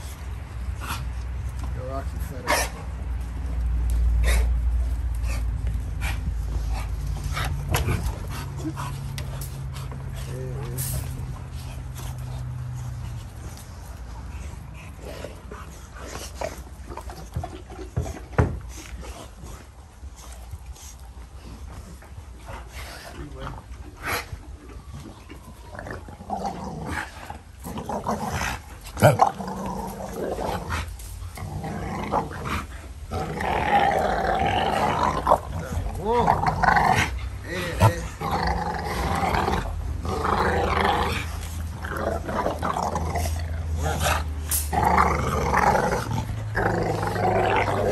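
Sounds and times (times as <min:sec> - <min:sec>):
dogs tugging on rope toy: 0:00.0 - 0:47.9.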